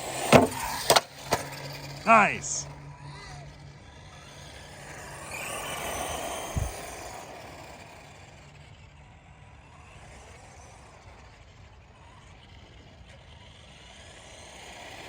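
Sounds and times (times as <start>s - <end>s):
rc truck motor whining: 2.9s - 15.0s.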